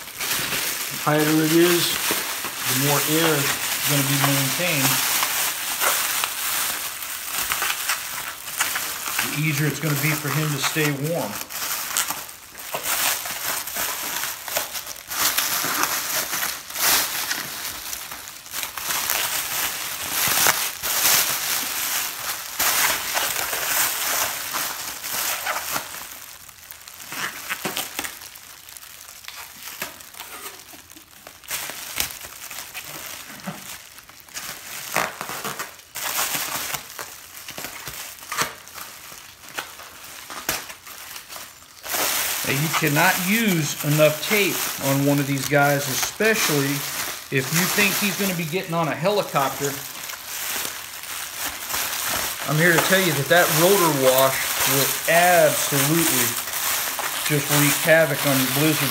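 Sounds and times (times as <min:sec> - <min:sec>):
plastic sheeting crinkling: 0:00.0 - 0:58.9.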